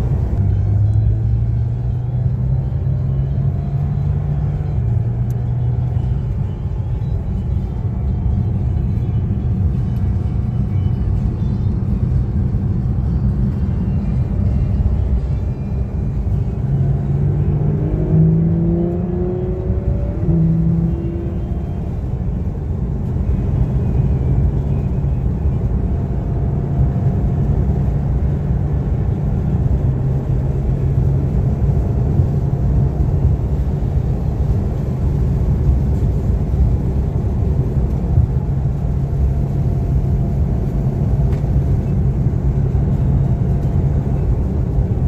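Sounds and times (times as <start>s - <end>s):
car engine drone from inside: 0.0s - 45.0s
road rumble: 0.0s - 45.0s.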